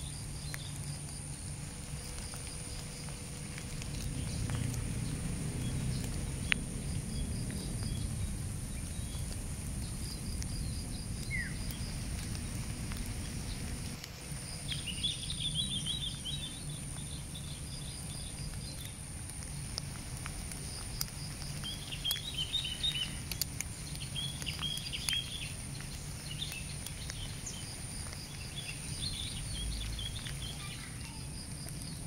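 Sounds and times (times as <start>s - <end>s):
low rumble: 0.0s - 30.6s
birds chirping: 0.0s - 32.0s.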